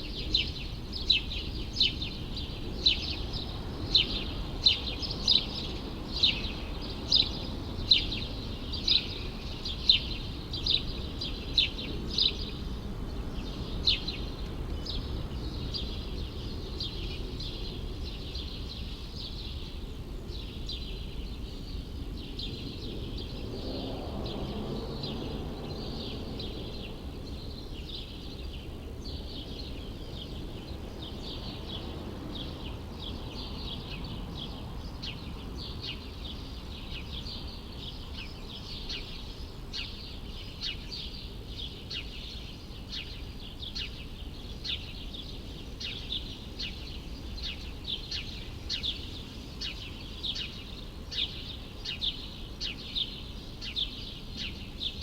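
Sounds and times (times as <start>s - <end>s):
city background hum: 0.0s - 55.0s.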